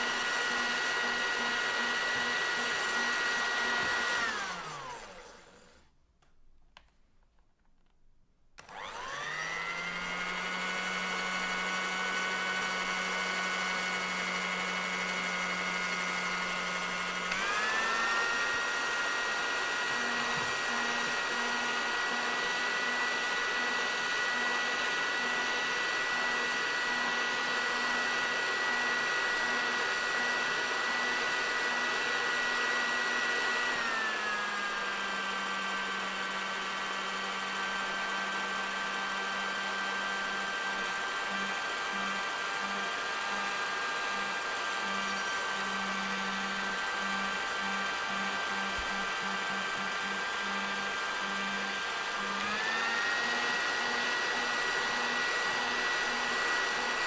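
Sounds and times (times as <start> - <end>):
hair dryer running: 0.0 - 6.0, 8.6 - 57.0.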